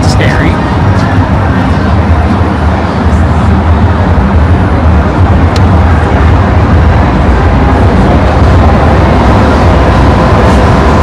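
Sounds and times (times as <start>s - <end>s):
passing road traffic: 0.0s - 11.0s
wind rumble on microphone: 0.0s - 11.0s.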